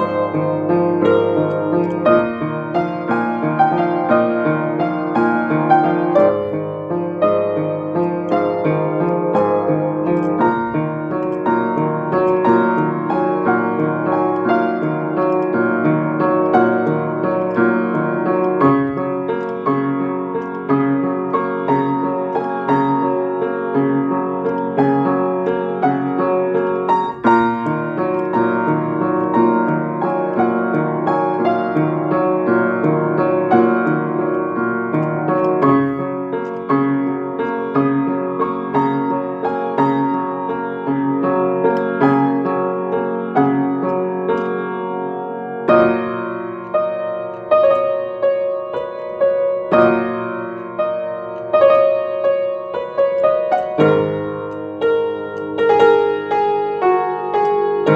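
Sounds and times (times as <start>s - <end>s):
upright piano playing: 0.0s - 57.9s.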